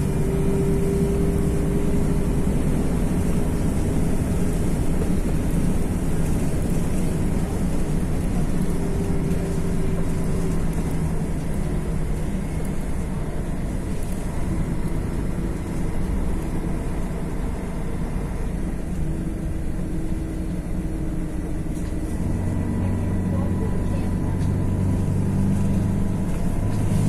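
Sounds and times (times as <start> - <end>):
diesel bus engine running: 0.0 - 27.0.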